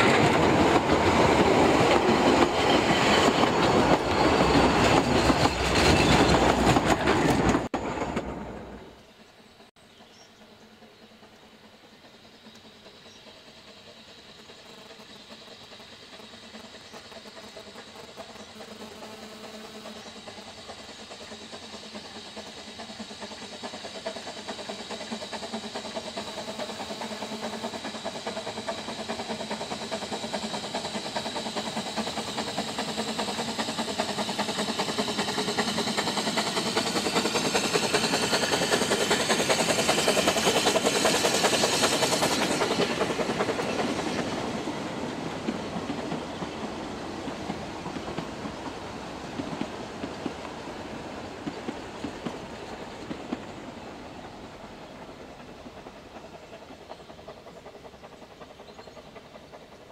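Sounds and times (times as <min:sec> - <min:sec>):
train wheels clattering: 0:00.0 - 0:09.0, 0:10.8 - 0:59.9
steam locomotive exhaust beating: 0:00.0 - 0:59.9.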